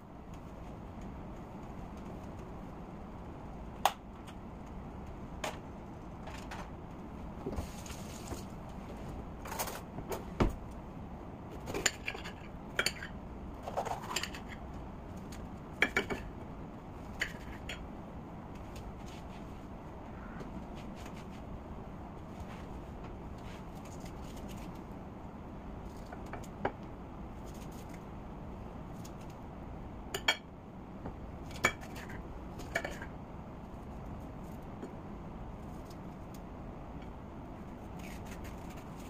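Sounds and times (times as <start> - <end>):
low background noise: 0.0 - 39.0.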